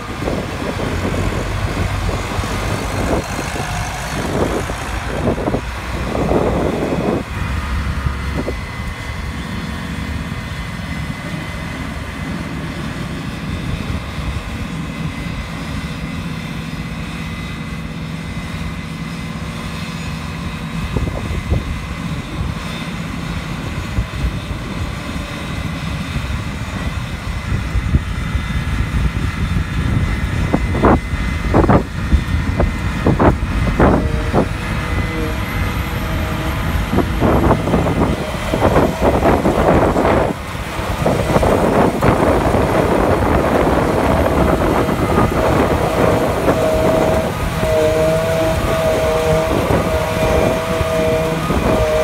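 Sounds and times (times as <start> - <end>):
tractor and harvester running: 0.0 - 52.0.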